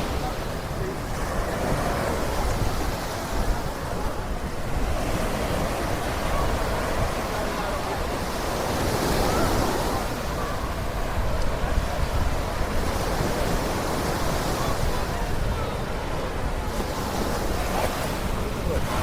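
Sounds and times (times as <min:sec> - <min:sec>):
surf washing onto sand: 0:00.0 - 0:19.0
wind buffeting microphone: 0:00.0 - 0:19.0.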